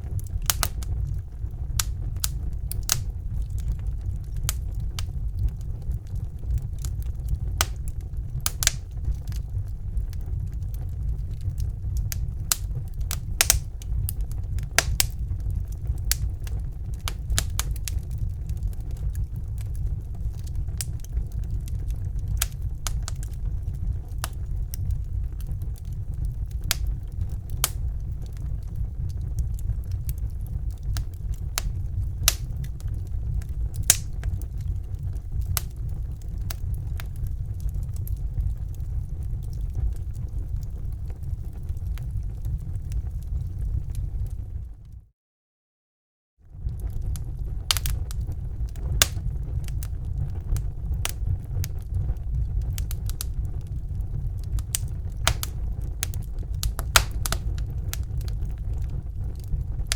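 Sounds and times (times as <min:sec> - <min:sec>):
wood fire crackling: 0:00.0 - 0:45.0, 0:46.5 - 0:59.9.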